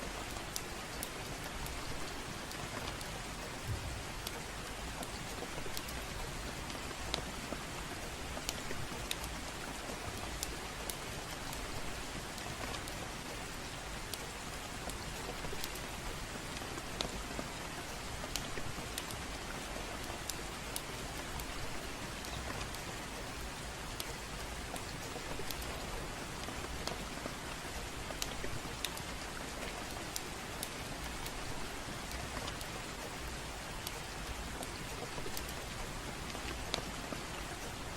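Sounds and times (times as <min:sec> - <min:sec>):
fireplace crackling and popping: 0:00.0 - 0:37.9
steady gentle rain: 0:00.0 - 0:37.9.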